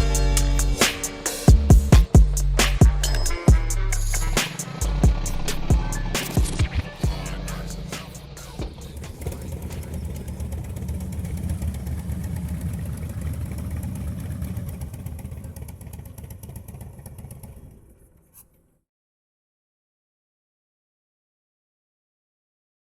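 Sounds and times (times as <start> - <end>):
motorcycle engine rumble: 0.0 - 18.8.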